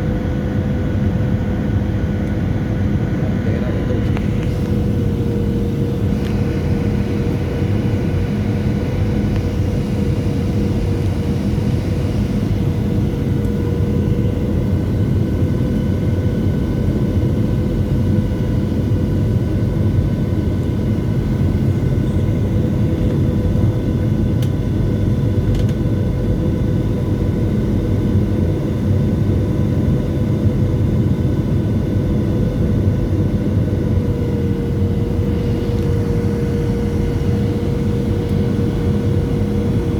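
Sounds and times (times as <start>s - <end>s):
jet engine fan whine: 0.0s - 39.9s.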